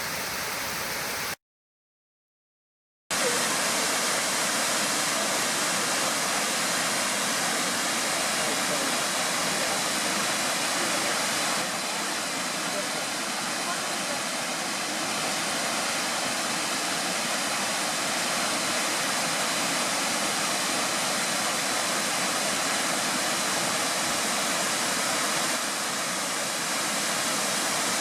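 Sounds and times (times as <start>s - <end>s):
waterfall rushing: 3.1s - 28.0s.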